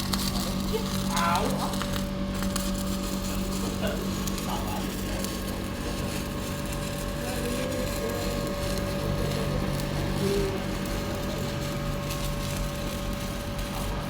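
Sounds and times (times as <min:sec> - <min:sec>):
electrical hum: 0:00.0 - 0:14.0
welding arc crackling: 0:00.0 - 0:14.0.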